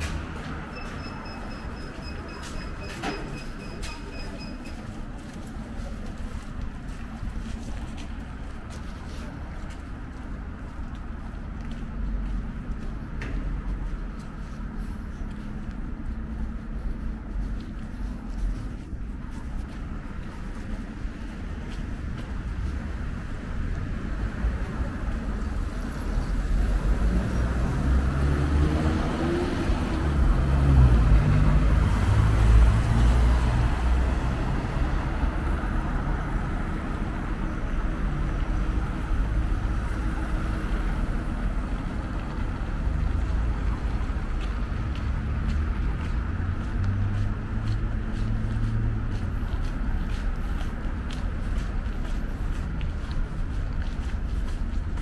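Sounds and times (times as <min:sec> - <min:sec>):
cars driving by: 0:00.0 - 0:55.0.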